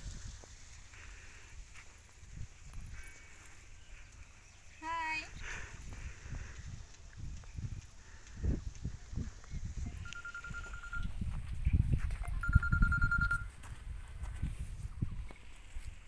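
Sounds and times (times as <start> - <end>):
wind buffeting microphone: 1.5 - 16.0.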